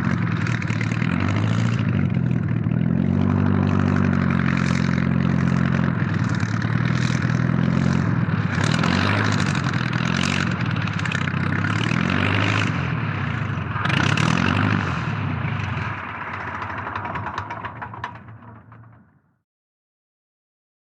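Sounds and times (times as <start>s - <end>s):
propeller airplane engine running: 0.0s - 19.3s.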